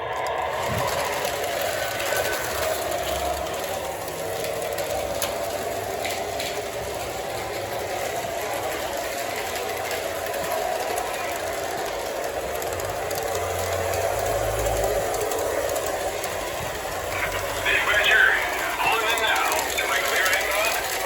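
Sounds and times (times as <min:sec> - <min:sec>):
model train humming: 0:00.0 - 0:21.0.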